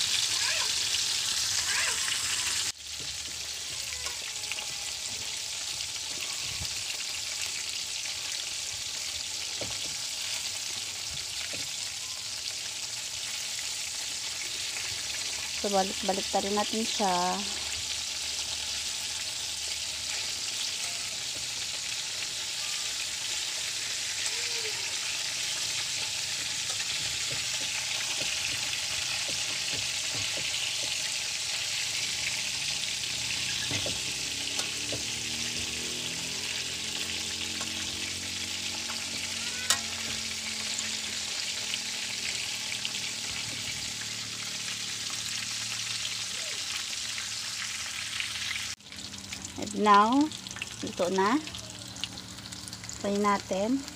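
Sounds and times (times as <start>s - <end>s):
chicken sizzling in hot oil: 0.0s - 53.9s.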